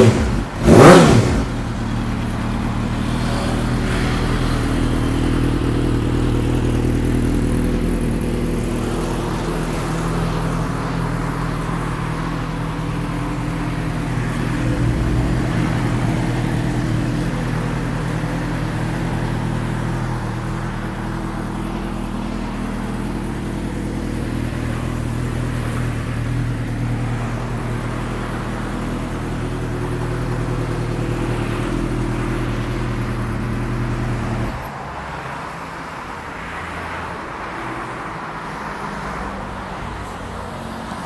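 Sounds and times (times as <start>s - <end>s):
motorcycle engine idling: 0.0s - 34.5s
faint traffic noise: 0.0s - 41.0s.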